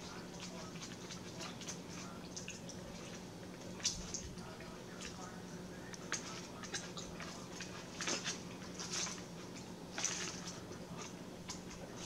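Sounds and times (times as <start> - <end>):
faint low hum: 0.0 - 12.0
wet chewing and lip-smacking: 0.0 - 12.0.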